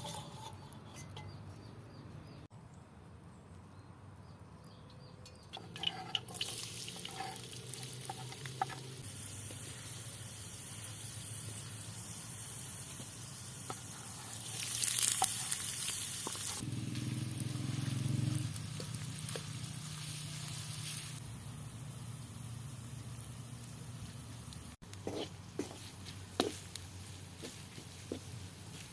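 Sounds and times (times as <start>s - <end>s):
food sizzling in hot oil: 5.6s - 28.9s.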